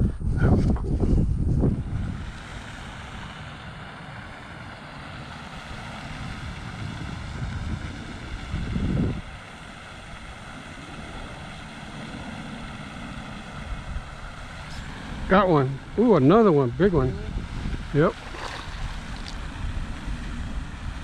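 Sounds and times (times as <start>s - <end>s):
wind rumbling on microphone: 0.0s - 21.0s
distant engine drone: 1.7s - 21.0s.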